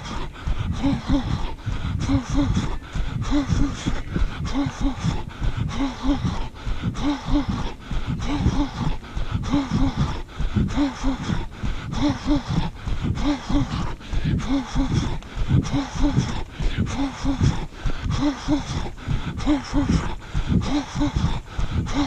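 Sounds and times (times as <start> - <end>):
runner breathing heavily: 0.0 - 22.0.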